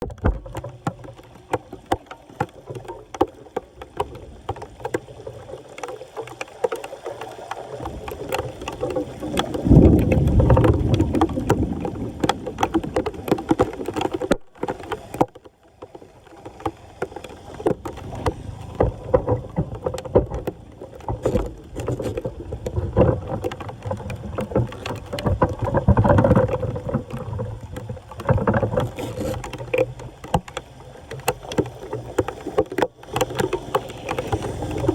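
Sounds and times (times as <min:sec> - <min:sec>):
knocks and scrapes at drain: 0:00.0 - 0:05.1, 0:07.8 - 0:15.4, 0:16.4 - 0:34.9
floodwater sloshing and splashing: 0:00.0 - 0:34.9.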